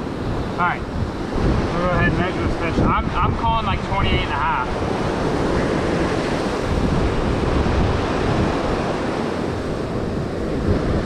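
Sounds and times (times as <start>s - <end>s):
ocean surf rushing: 0.0s - 11.0s
wind rumbling on microphone: 0.0s - 11.0s.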